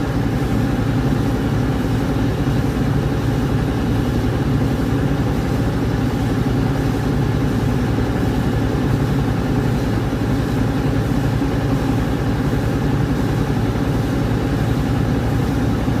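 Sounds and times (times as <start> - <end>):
rice milling machine droning: 0.0 - 16.0.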